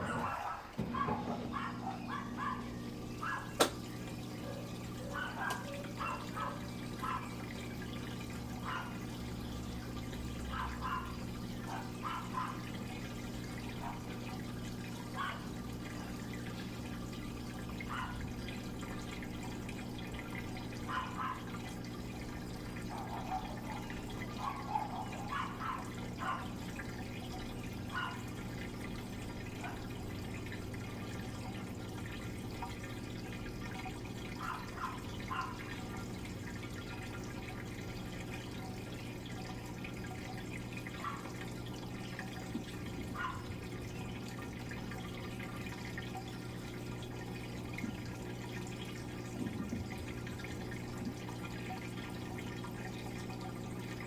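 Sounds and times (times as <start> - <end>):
washing machine low hum: 0.0 - 54.0
water dripping and trickling: 0.0 - 54.0.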